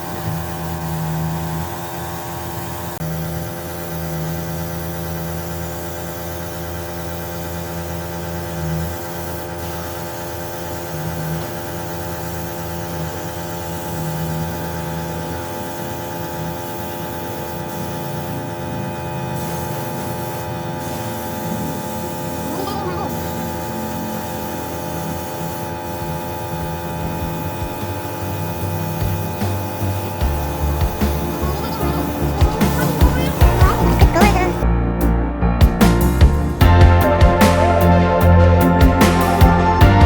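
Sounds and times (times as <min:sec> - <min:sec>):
hiss: 0:00.0 - 0:34.5
steady multi-tone hum: 0:00.0 - 0:34.7.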